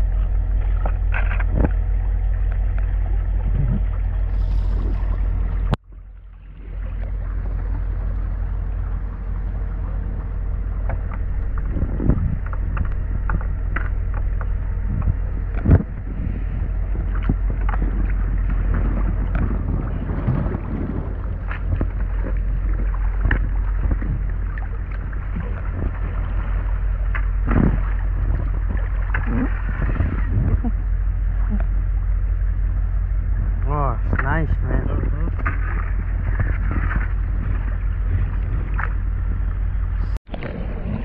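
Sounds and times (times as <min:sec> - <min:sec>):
creek water lapping and splashing: 0:00.0 - 0:41.0
steady low rumble: 0:00.0 - 0:41.0.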